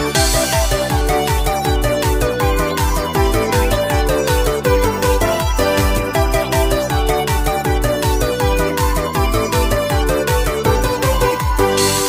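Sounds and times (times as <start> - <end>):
background music with quick beat: 0.0 - 12.0.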